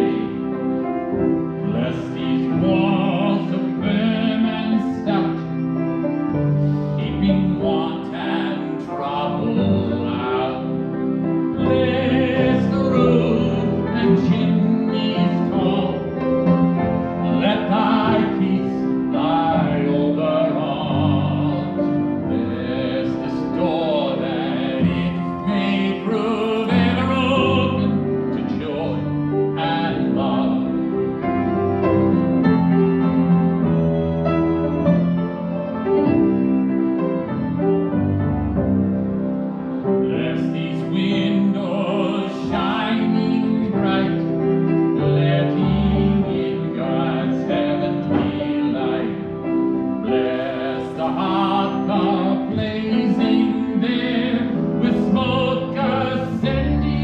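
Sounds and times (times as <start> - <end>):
classical singing: 0.0 - 57.0
piano accompaniment: 0.0 - 57.0.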